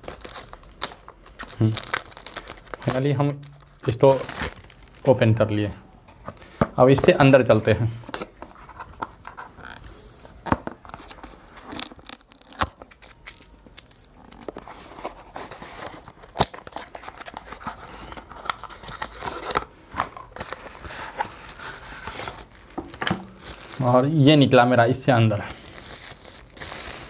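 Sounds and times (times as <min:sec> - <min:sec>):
packaging tearing and crinkling: 0:00.0 - 0:05.1, 0:08.6 - 0:24.2, 0:25.3 - 0:27.0.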